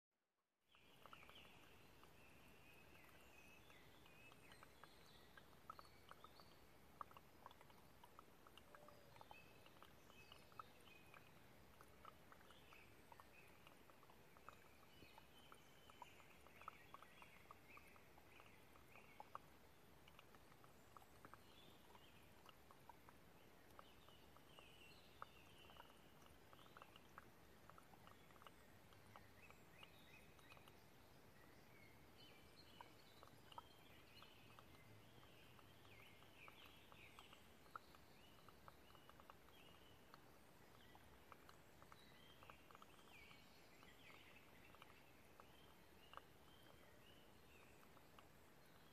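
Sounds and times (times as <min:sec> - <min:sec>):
faint high chirps: 0:00.7 - 0:48.9
soft ticks: 0:00.8 - 0:48.9.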